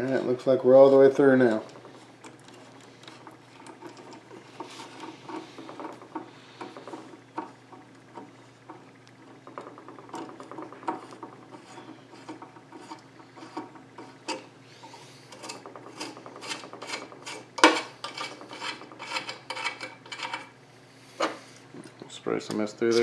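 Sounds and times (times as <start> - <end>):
metal scraping and clicking: 0.0 - 20.5.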